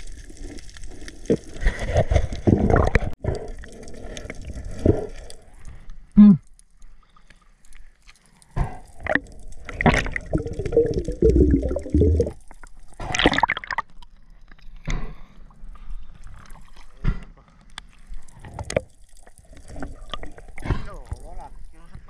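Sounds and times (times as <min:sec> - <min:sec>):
water splashing and gurgling: 0:00.0 - 0:22.0.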